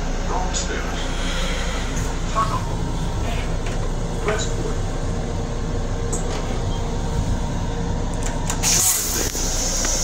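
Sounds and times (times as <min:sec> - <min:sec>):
constant hum: 0:00.0 - 0:10.0
electric railcar rumbling: 0:00.0 - 0:10.0.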